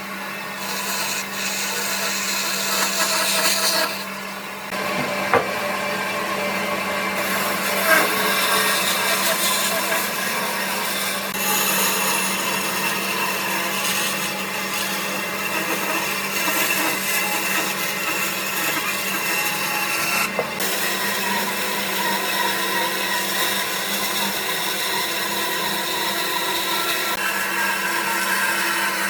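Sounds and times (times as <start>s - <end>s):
electric woodworking power tool: 0.0s - 29.0s.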